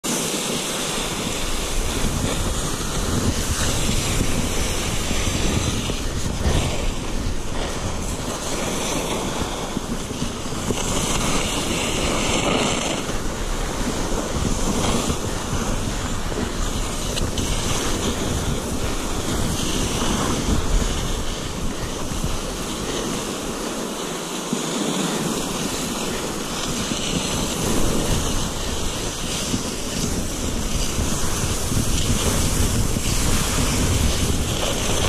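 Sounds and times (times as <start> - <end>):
snow hissing under sliding body: 0.0 - 35.0
wind on microphone: 0.0 - 35.0.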